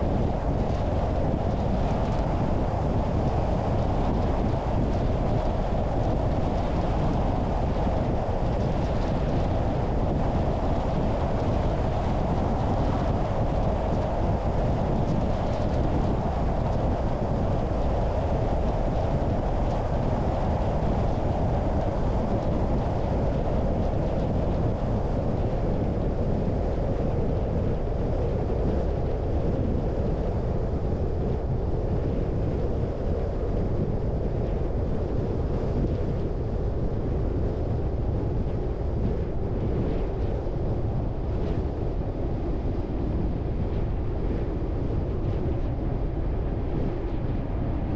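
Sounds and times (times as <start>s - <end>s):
road and wind noise: 0.0s - 47.9s.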